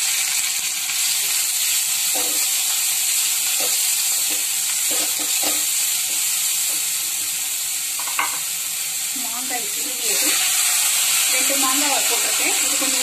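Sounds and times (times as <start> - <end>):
carrot sizzling in oil: 0.0 - 13.0.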